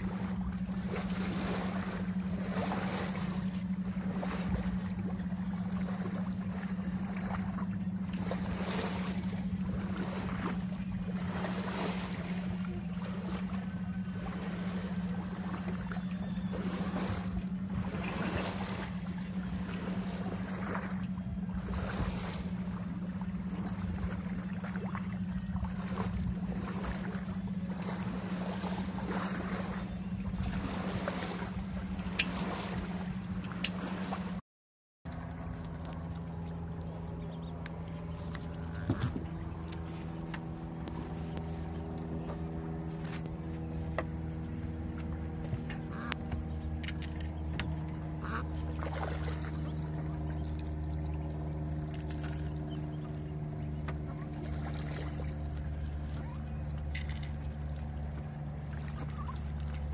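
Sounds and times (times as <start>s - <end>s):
boat motor droning: 0.0s - 34.4s, 35.0s - 59.9s
waves splashing against hull: 0.0s - 34.4s, 35.0s - 59.9s.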